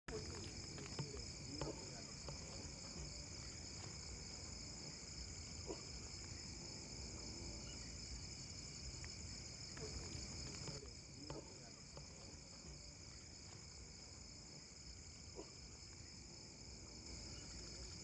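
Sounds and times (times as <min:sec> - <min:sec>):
crickets chirping: 0:00.1 - 0:18.0.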